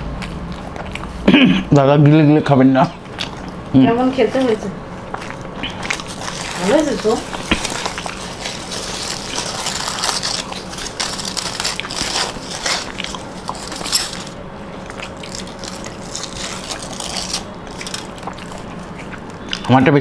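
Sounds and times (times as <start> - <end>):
person chewing and biting food: 0.0 - 2.2, 2.8 - 3.7, 4.4 - 19.8
faint steady hum: 0.0 - 20.0.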